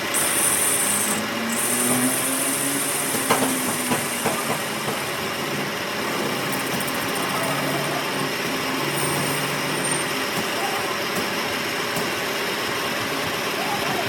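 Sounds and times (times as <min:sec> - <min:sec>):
mechanical running hum: 0:00.0 - 0:14.0.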